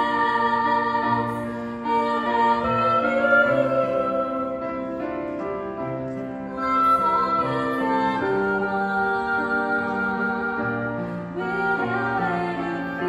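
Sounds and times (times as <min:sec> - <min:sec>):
woman singing into microphone: 0:00.0 - 0:04.9, 0:06.5 - 0:13.0
grand piano: 0:00.0 - 0:13.0
oboe: 0:00.0 - 0:13.0.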